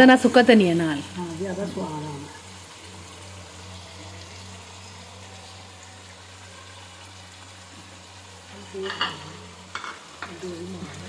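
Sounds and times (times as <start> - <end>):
potatoes sizzling in a pan: 0.0 - 11.0.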